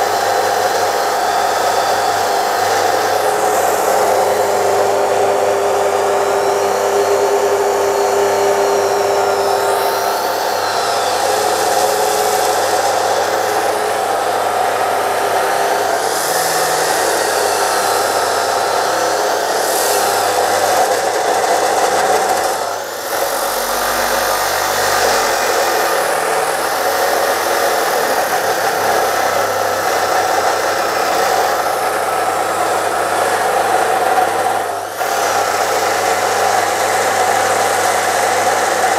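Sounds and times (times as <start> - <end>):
chop saw motor roaring: 0.0 - 38.9.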